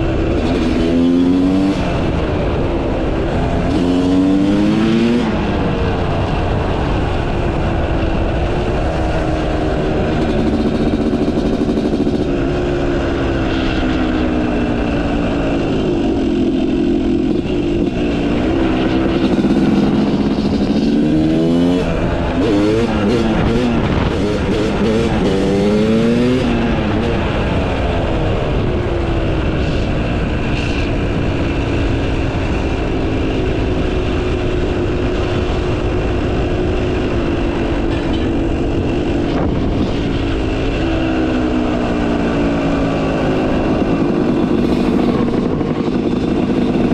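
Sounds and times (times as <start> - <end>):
motocross bike engine revving: 0.0 - 7.6, 8.2 - 31.6, 36.6 - 46.9.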